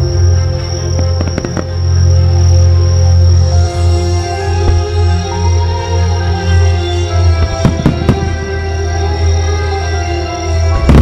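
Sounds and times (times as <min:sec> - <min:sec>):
high insect trill: 0:00.0 - 0:11.0
slow music with heavy bass: 0:00.0 - 0:11.0.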